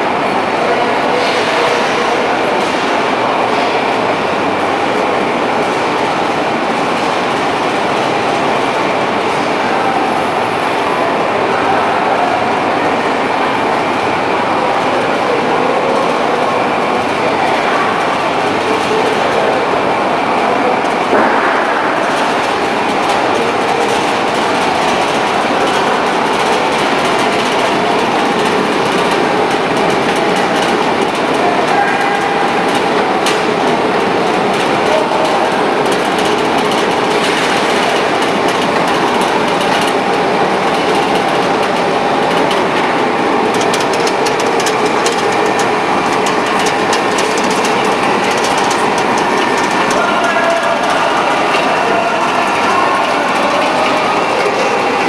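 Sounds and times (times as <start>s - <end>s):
production line machinery running: 0.0s - 55.0s.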